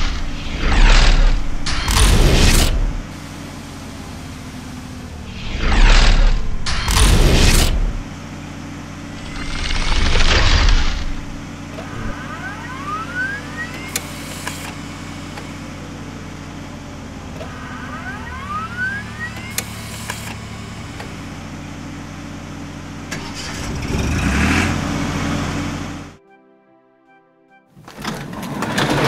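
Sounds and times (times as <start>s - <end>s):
rising mechanical whir with clicks: 0.0s - 26.2s
steady engine hum: 0.0s - 26.2s.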